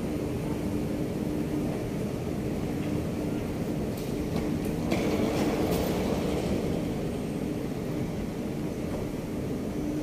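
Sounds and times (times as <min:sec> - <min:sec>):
escalator mechanical hum: 0:00.0 - 0:10.0.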